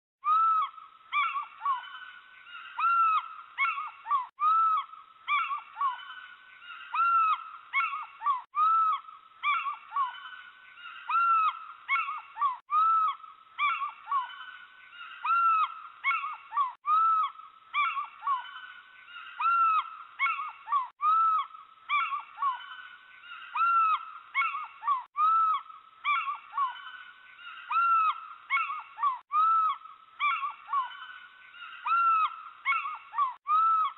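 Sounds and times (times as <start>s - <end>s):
owl calls: 0.2s - 33.9s.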